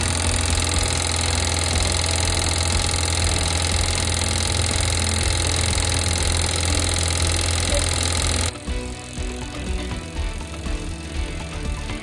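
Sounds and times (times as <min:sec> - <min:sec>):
electric fuel pump humming: 0:00.0 - 0:12.0.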